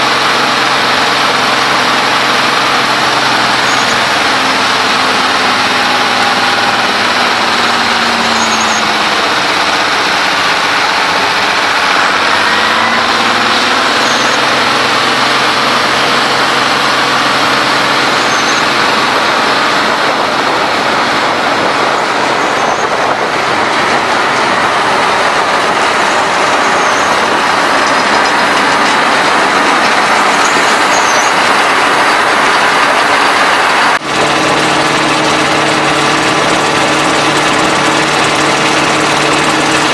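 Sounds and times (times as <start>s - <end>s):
low engine drone: 0.0s - 39.9s
tub grinder machinery running: 0.0s - 39.9s.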